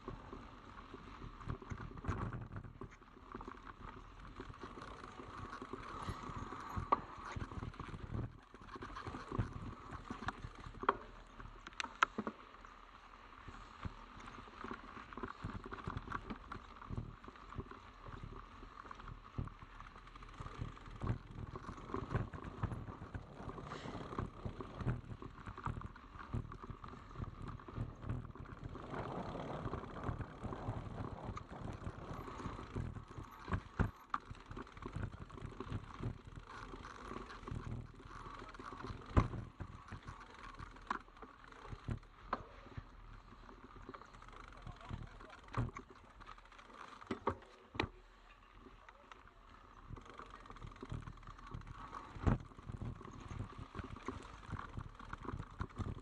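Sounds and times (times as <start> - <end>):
mountain bike rattling: 0.0 - 56.0.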